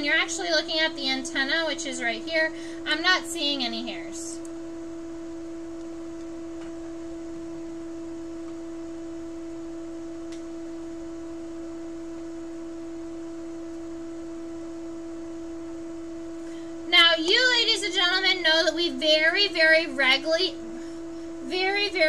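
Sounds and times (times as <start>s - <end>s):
steady pure tone: 0.0s - 22.0s.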